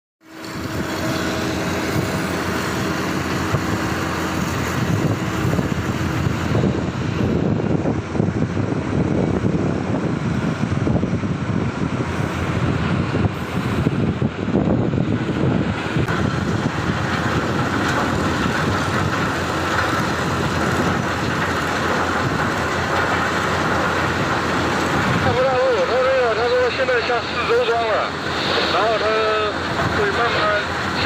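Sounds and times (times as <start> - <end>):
excavator machine drone: 0.2 - 31.0
wind on microphone: 0.4 - 25.6.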